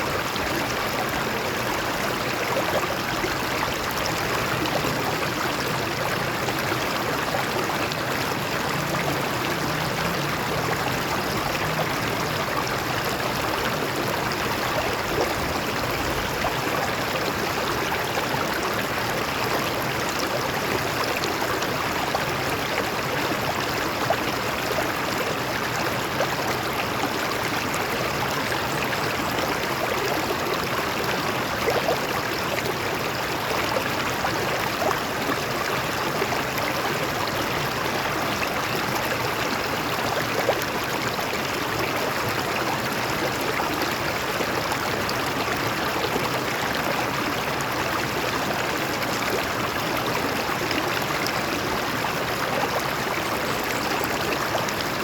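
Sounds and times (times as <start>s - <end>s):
stream water flowing over rocks: 0.0s - 55.0s.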